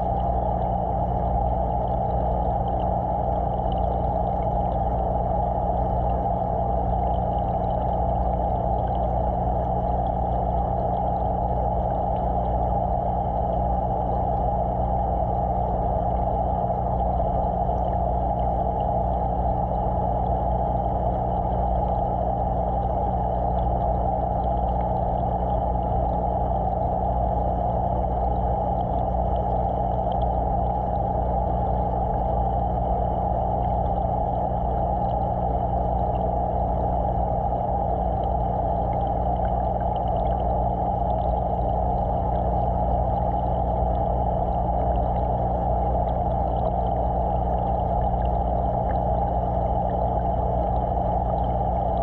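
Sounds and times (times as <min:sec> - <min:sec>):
aquarium pump hum underwater: 0:00.0 - 0:52.0.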